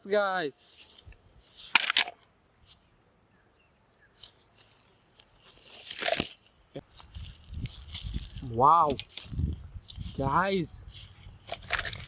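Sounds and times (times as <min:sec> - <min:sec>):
rustling and crunching handling noises: 0:00.4 - 0:02.9, 0:03.9 - 0:12.0.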